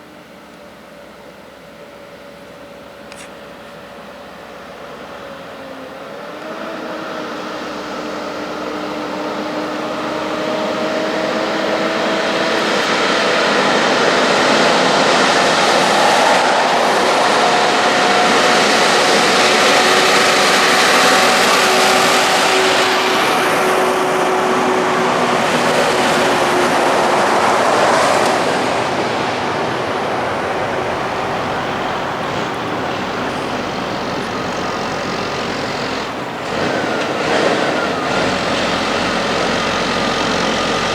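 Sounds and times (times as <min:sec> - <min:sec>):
truck diesel engine passing: 0:00.0 - 0:40.9
tyre road noise: 0:00.6 - 0:40.9.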